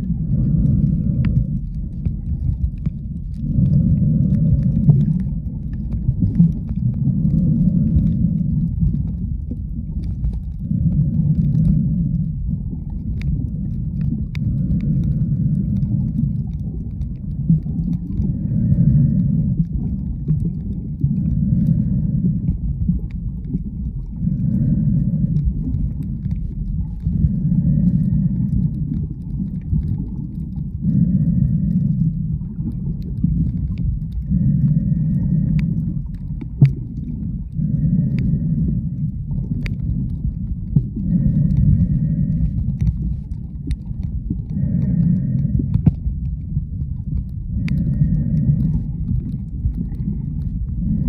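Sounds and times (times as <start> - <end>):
muffled underwater rumble: 0.0 - 51.0.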